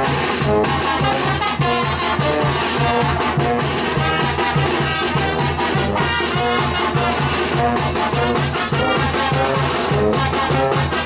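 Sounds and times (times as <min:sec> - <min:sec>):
brass band music: 0:00.0 - 0:11.0
drums: 0:00.0 - 0:11.0.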